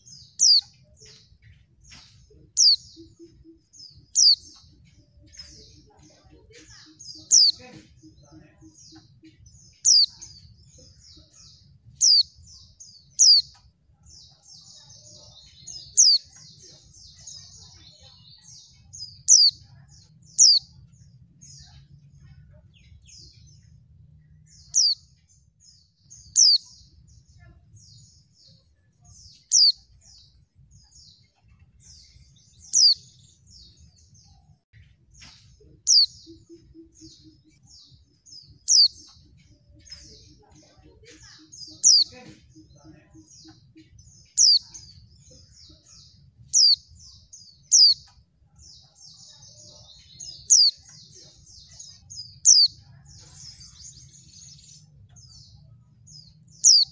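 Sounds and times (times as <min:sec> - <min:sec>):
soft bird twittering: 0:00.0 - 0:56.9.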